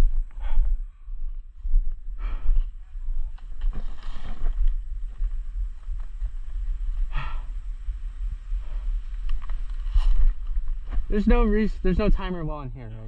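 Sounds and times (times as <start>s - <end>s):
low rumble on microphone: 0.0s - 12.9s.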